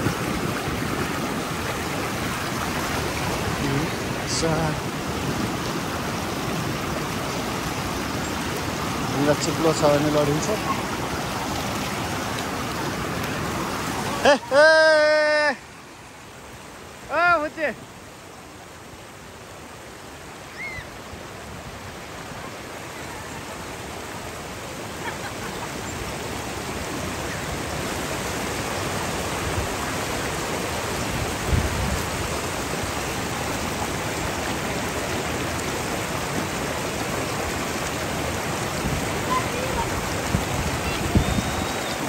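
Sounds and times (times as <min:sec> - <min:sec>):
stream water rushing over rocks: 0:00.0 - 0:42.0.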